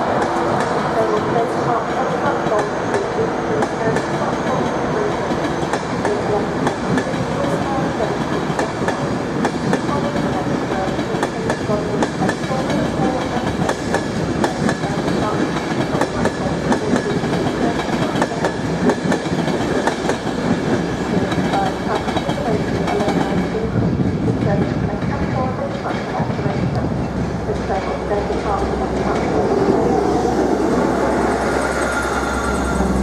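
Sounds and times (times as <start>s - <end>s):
train rumbling on track: 0.0s - 33.0s.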